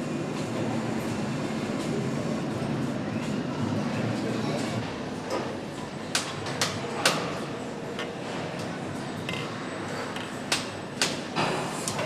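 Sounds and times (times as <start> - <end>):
factory background noise: 0.0 - 12.0.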